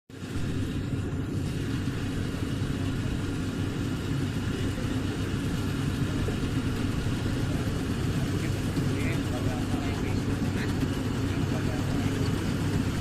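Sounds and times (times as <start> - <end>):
harvester engine rumbling: 0.2 - 13.0.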